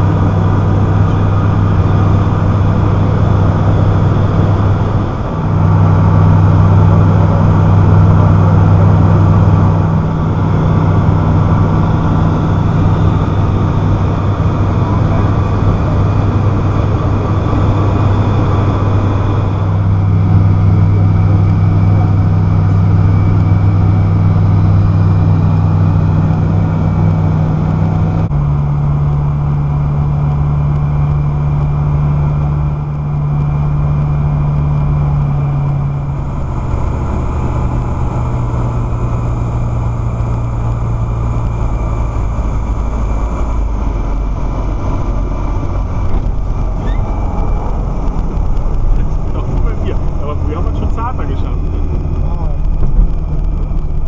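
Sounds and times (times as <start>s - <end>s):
aircraft engine and propeller droning: 0.0s - 54.0s
low rumble of wheels on runway: 0.0s - 54.0s
wind noise: 0.0s - 54.0s.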